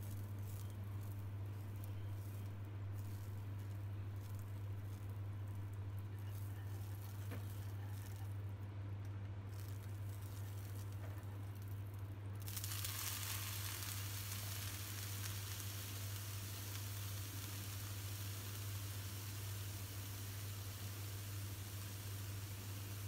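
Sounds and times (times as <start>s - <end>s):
vegetables sizzling in a wok: 0.0s - 8.3s, 9.5s - 11.7s, 12.4s - 23.0s
butter melting: 0.0s - 8.4s, 9.5s - 23.0s.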